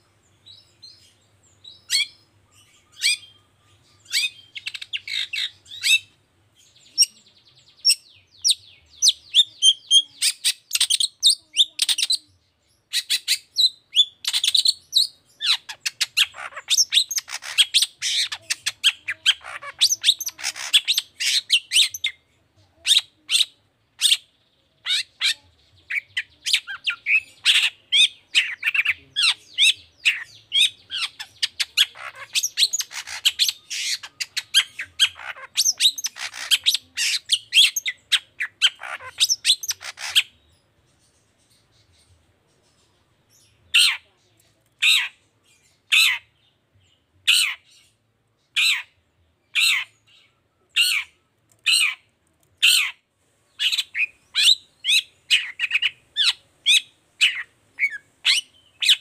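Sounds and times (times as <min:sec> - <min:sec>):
bird harsh chattering song: 0:00.0 - 0:59.0.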